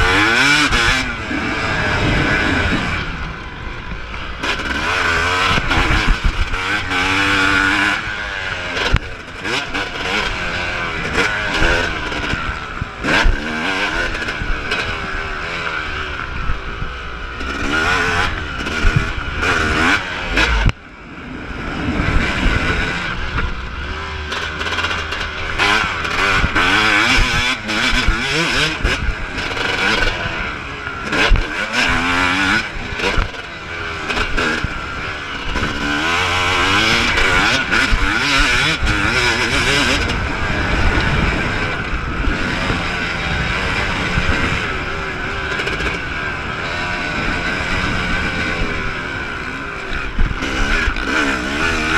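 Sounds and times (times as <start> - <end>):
two-stroke motorcycle engine revving: 0.0 - 51.9.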